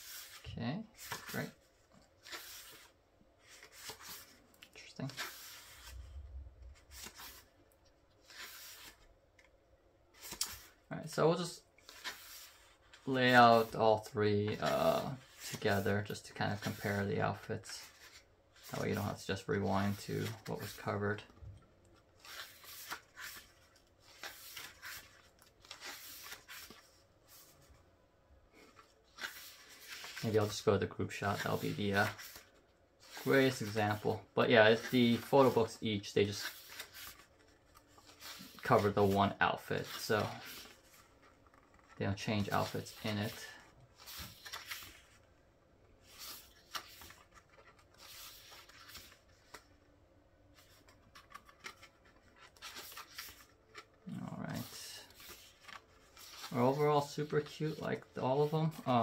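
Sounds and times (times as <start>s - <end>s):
glossy pages turning: 1.0s - 7.6s, 8.2s - 10.8s, 11.8s - 27.8s, 28.6s - 59.0s.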